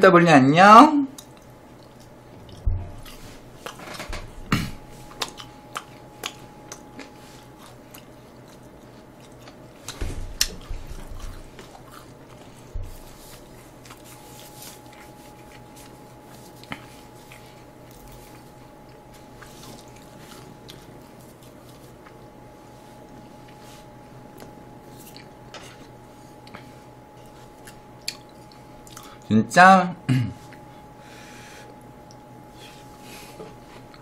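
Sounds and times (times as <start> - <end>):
crunchy chewing: 1.1 - 4.1, 4.7 - 29.3.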